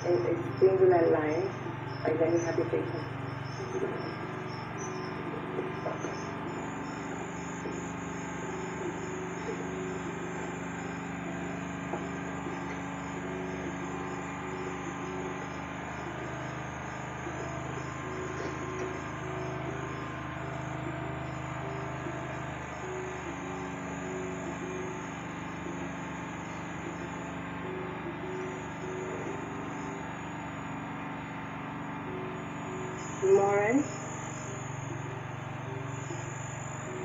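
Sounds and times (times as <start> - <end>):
television soundtrack with chirping pulses: 0.0 - 37.0.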